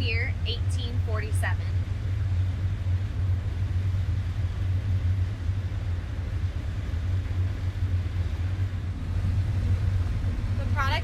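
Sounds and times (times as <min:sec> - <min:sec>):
combine harvester engine rumble: 0:00.0 - 0:11.0.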